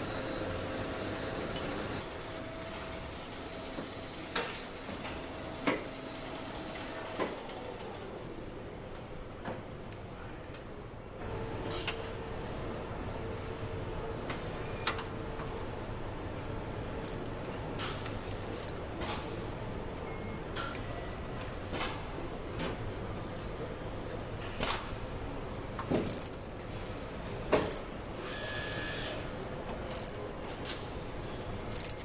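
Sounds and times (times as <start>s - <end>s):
factory machinery hum: 0.0s - 32.0s.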